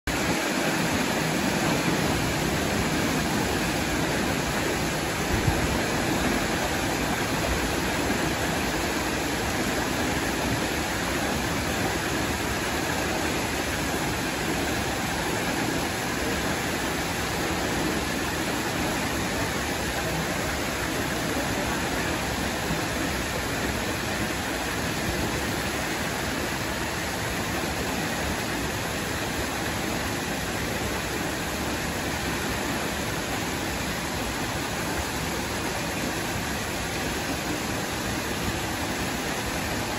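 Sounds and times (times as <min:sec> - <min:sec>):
water rushing through sluices: 0:00.1 - 0:39.9.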